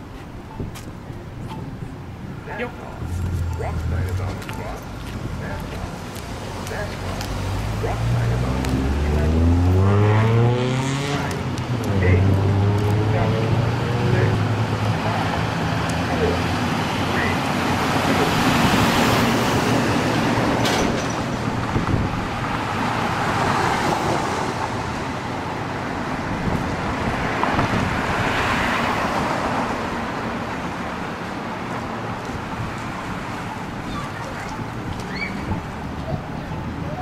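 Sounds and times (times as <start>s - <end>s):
cars passing: 0.0s - 37.0s
road traffic hum: 0.0s - 37.0s.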